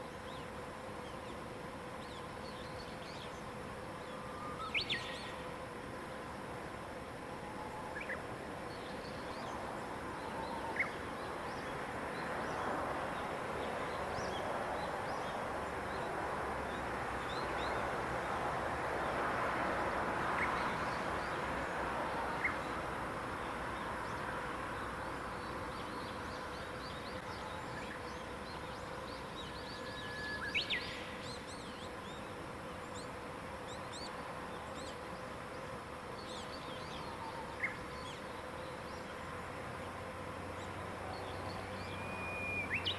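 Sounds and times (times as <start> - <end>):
birds chirping and twittering: 0.0 - 5.5, 7.5 - 18.4, 23.4 - 42.9
faint steady hum: 0.0 - 42.9
outdoor hiss: 0.0 - 42.9.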